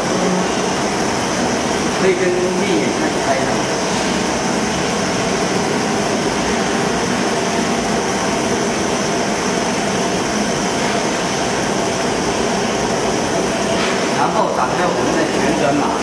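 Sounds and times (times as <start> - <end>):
steady rushing roar: 0.0 - 16.0.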